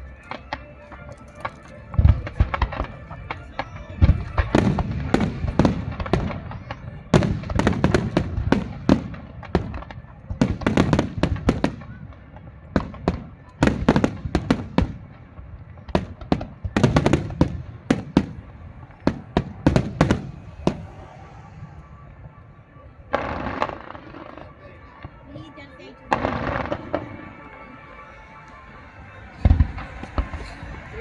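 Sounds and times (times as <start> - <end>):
fireworks bursting with bangs: 0.0 - 31.0.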